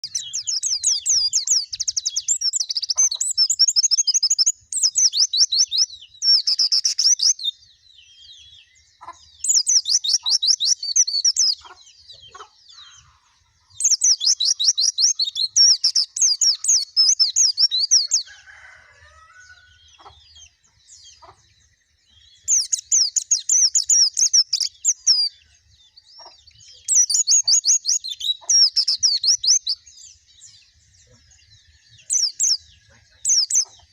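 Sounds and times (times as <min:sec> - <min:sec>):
bird twittering: 0:00.0 - 0:33.9.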